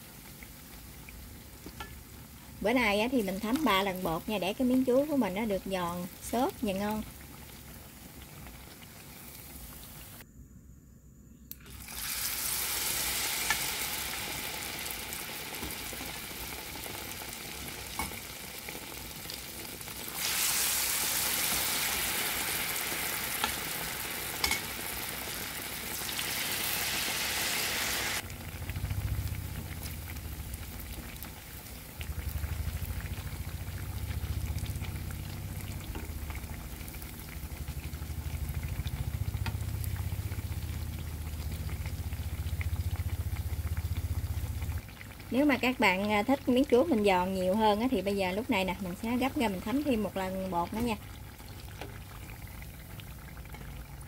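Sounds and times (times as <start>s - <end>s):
banana slices sizzling in oil: 0.0s - 10.2s, 11.6s - 54.0s.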